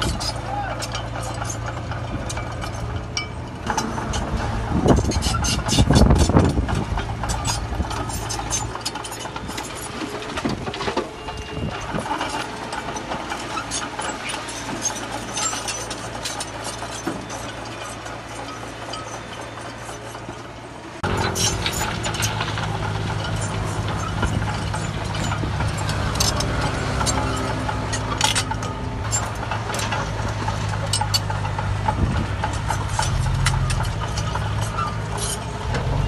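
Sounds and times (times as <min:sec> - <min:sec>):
clicks and clanks: 0:00.0 - 0:36.0
diesel engine running: 0:00.0 - 0:36.0.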